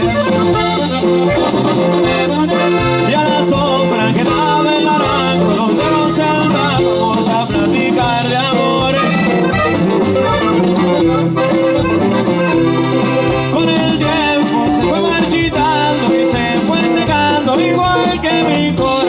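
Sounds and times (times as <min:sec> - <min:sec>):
bass line: 0:00.0 - 0:19.0
button accordion: 0:00.0 - 0:19.0
drums: 0:00.0 - 0:19.0
live band playing: 0:00.0 - 0:19.0.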